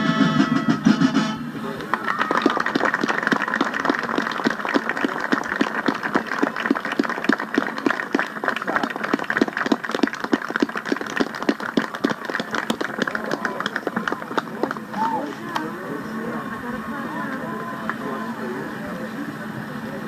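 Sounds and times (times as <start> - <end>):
audience applause through speakers: 1.6 - 20.0.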